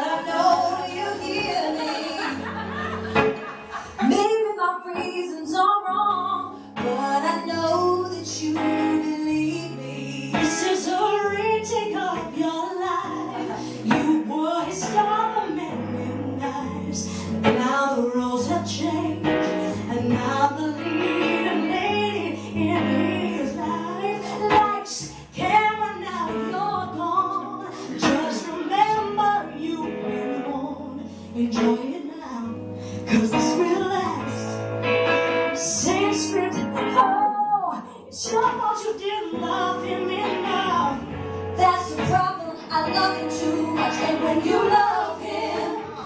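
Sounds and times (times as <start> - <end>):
women singing duet: 0.0 - 34.7, 35.5 - 46.0.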